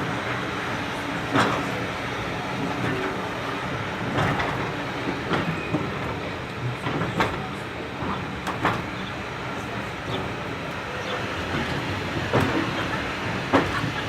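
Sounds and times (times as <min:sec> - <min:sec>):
train rumbling on track: 0:00.0 - 0:14.0
wheels clicking over rail joints: 0:00.0 - 0:14.0.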